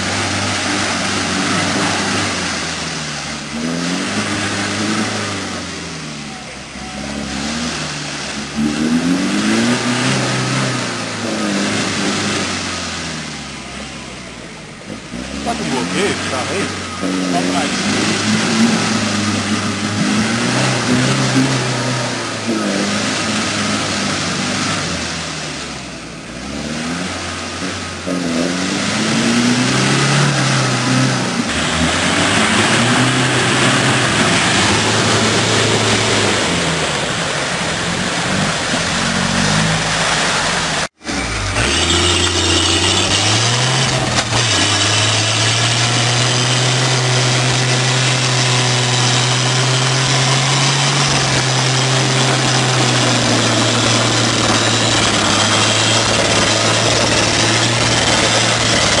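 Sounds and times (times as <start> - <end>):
jeep engine climbing: 0.0 - 59.0
off-road engine revving in mud: 0.0 - 59.0.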